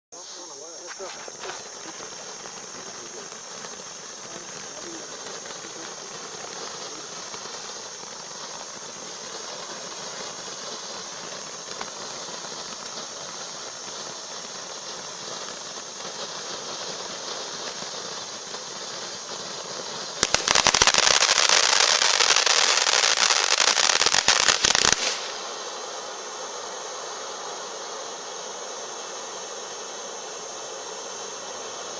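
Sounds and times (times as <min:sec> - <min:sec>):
firework crackling: 0:00.1 - 0:31.9
fountain firework hissing: 0:00.1 - 0:31.9.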